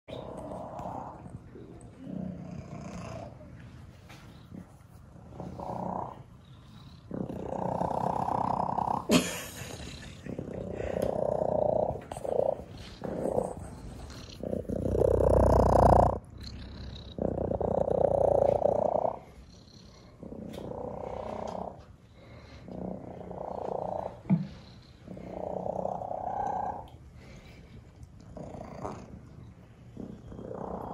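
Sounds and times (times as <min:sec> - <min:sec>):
cat purring loudly: 0:00.1 - 0:30.9.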